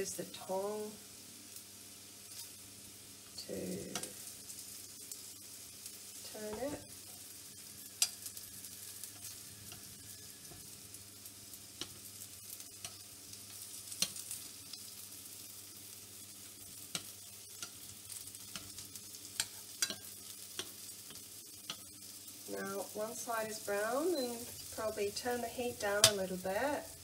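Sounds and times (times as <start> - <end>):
dumplings sizzling in oil: 0.0 - 27.0.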